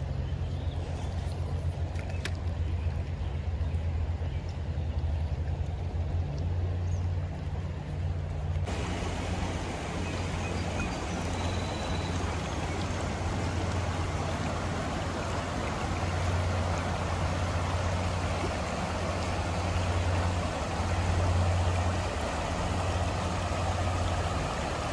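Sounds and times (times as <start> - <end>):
creek water rushing over rocks: 0.8 - 24.9.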